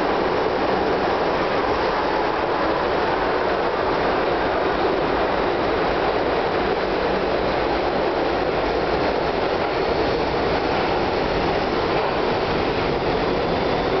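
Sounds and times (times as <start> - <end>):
subway train rumbling past: 0.0 - 14.0.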